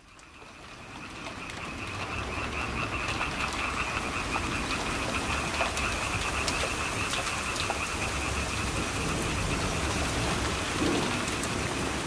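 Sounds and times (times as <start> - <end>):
frogs calling in a trill: 0.0 - 12.0
rain pattering: 0.0 - 12.0.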